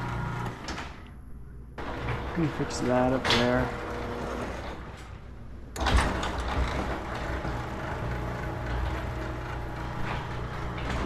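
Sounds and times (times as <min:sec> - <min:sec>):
garage door opener running: 0:00.0 - 0:01.2, 0:01.8 - 0:11.0.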